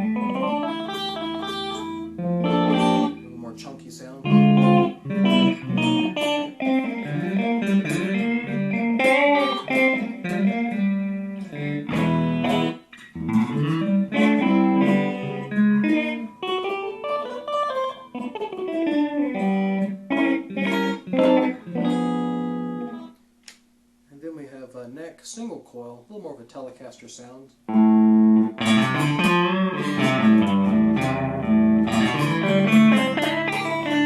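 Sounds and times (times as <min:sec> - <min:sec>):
electric guitar playing notes and chords: 0:00.0 - 0:23.3, 0:27.7 - 0:34.0.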